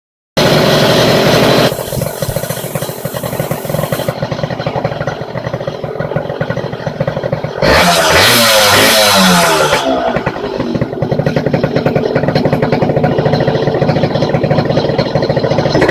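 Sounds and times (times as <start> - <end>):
two-stroke engine revving: 0.4 - 15.9.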